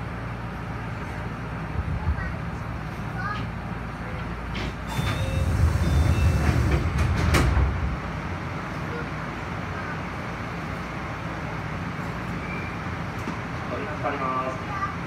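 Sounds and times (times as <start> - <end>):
train heavy low rumble: 0.0 - 15.0
train steady low hum: 0.0 - 15.0.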